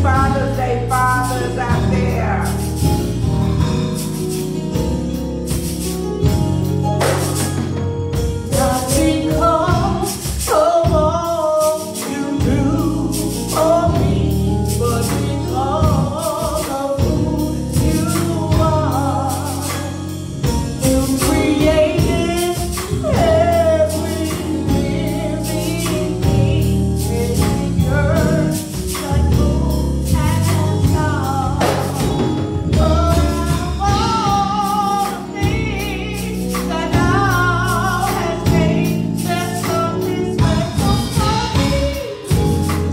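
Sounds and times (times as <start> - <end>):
bass line and beat: 0.0 - 42.9
group singing gospel: 7.0 - 42.9.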